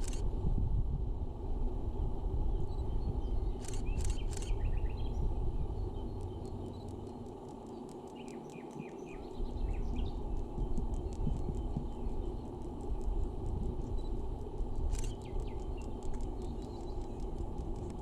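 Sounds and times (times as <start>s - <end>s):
steady low rushing noise: 0.0s - 18.0s
small birds chirping: 2.6s - 18.0s.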